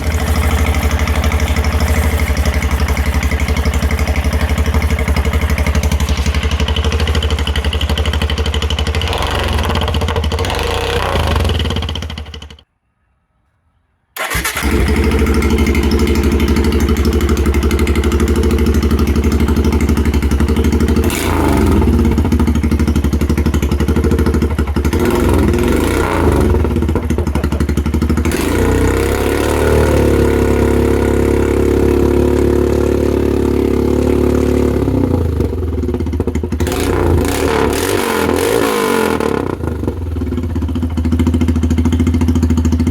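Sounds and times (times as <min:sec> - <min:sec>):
motorcycle engine idling and revving: 0:00.0 - 0:12.7, 0:14.2 - 0:42.9.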